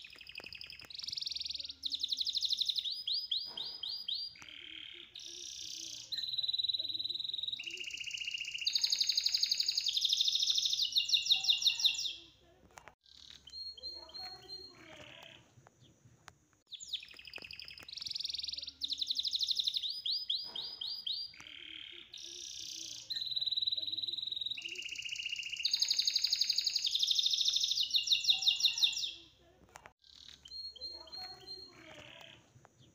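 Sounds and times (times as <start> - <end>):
bird-like chirps and trills: 0.0 - 12.4, 13.0 - 16.0, 16.7 - 29.4, 30.0 - 32.9.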